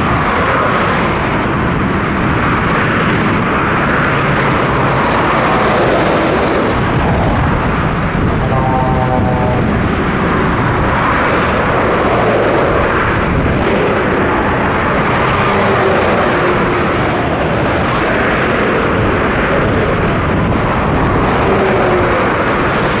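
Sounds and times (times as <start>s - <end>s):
traffic roar passing close: 0.0s - 23.0s.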